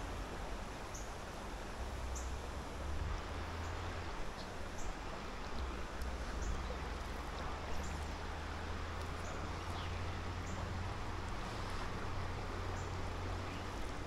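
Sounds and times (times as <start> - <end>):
river running over rocks: 0.0 - 14.0.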